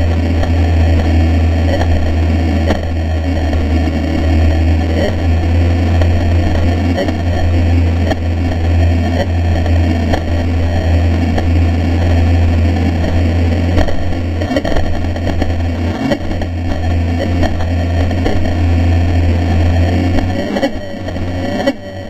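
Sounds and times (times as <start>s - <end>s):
boat hull and drive humming: 0.0s - 22.0s.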